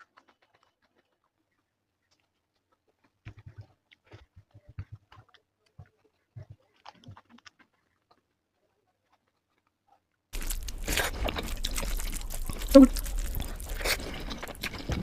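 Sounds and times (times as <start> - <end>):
chewing with wet mouth clicks: 0.0 - 8.4, 9.1 - 15.0.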